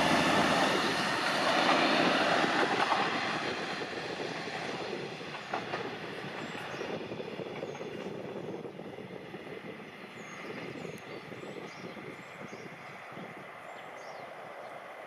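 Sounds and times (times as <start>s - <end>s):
diesel railcar rumble: 0.0s - 15.0s
rail noise: 0.0s - 15.0s.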